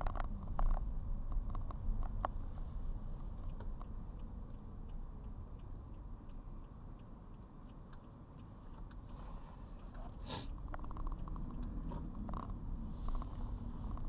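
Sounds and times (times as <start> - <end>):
car rumbling inside cabin: 0.0 - 14.0
faint small ticks: 0.0 - 14.0.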